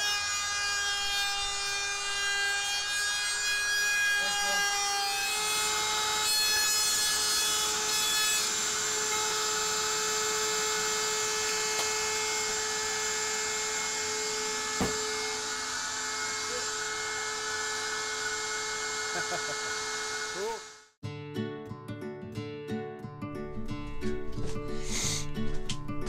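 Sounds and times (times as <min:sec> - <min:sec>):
rotary power tool whining: 0:00.0 - 0:21.0.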